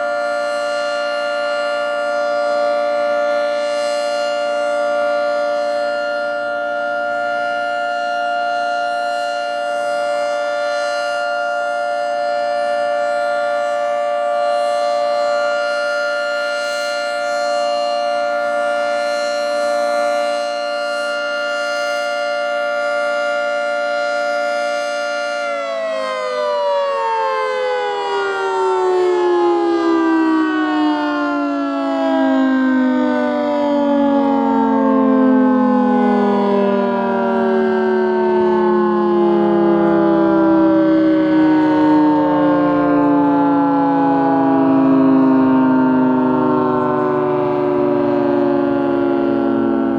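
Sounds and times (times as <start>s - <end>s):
warning siren winding down: 0.0s - 49.9s.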